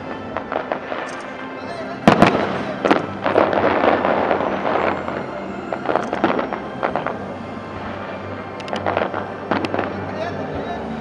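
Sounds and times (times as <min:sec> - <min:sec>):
fireworks crackling and banging: 0:00.0 - 0:10.6.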